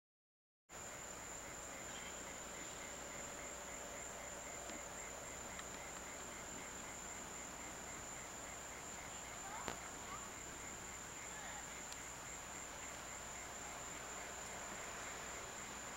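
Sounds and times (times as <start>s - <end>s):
insects trilling: 0.7s - 15.9s
pulsed insect chirp: 0.7s - 15.9s
tape hiss: 0.7s - 15.9s.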